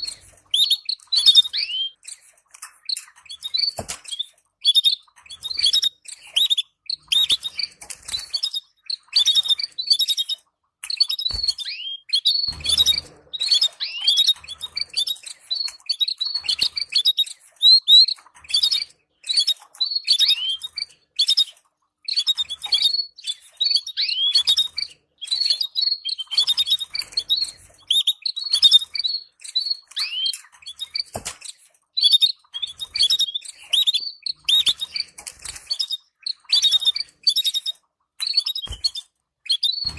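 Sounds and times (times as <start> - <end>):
canaries chirping: 0.0 - 39.9.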